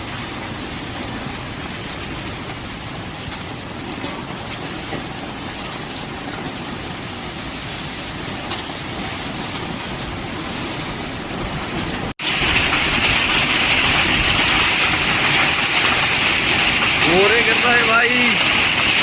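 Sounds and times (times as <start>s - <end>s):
rain and hail falling: 0.0s - 19.0s.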